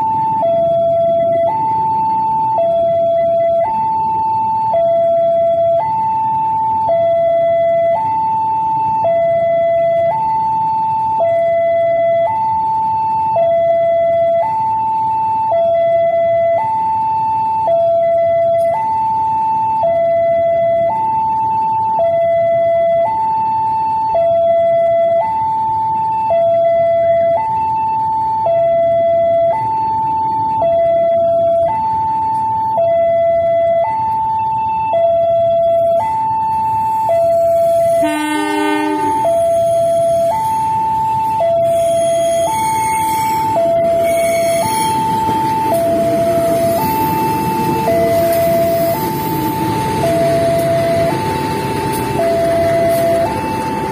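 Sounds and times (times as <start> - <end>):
level crossing alarm two-tone: 0.0 - 53.9.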